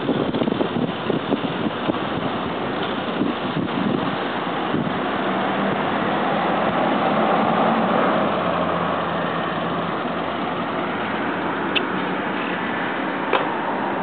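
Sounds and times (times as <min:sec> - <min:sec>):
bus engine passing: 0:00.0 - 0:14.0
street traffic noise: 0:00.0 - 0:14.0.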